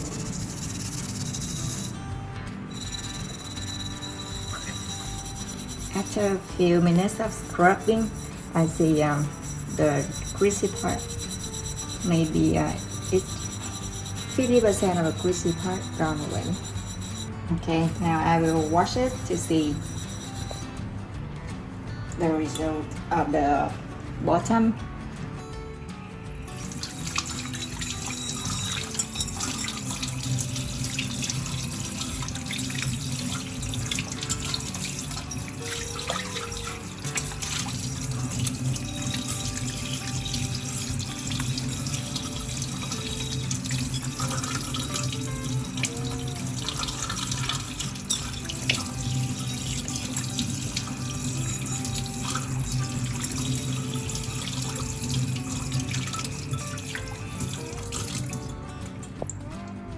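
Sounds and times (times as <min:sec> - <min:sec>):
pot being rinsed: 0:00.0 - 0:20.8, 0:26.3 - 0:59.4
faint background music: 0:00.0 - 0:59.9.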